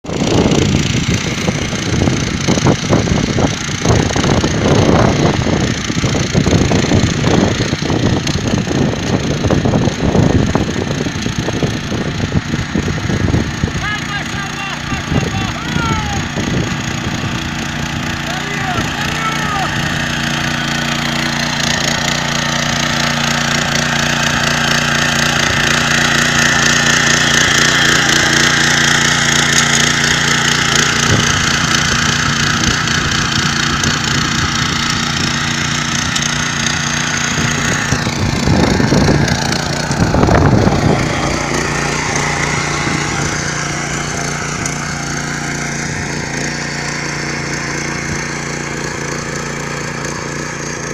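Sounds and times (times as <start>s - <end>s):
motor hoe engine running: 0.0s - 50.9s
tines scraping soil: 0.0s - 50.9s.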